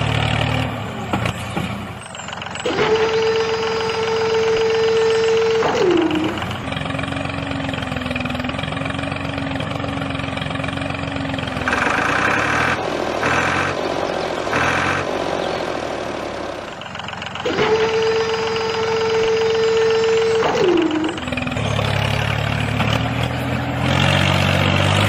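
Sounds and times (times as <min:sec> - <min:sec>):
small motor whining: 0:02.0 - 0:10.0, 0:11.3 - 0:25.0.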